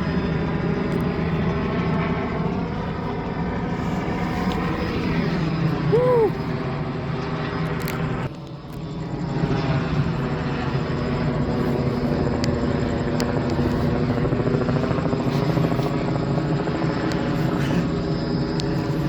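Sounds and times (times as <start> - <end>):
helicopter rotor drone: 0.0 - 19.0.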